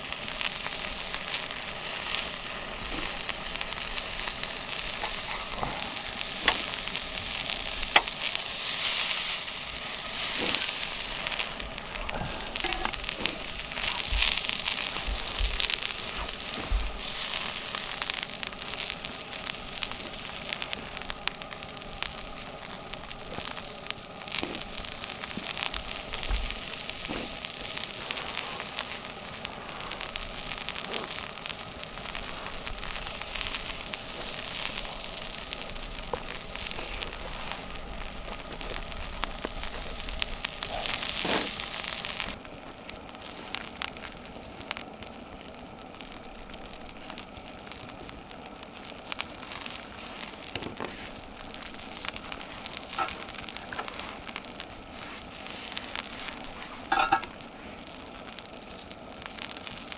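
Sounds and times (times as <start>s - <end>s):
fire crackling and popping: 0.0s - 59.9s
food sizzling over campfire: 0.0s - 59.9s.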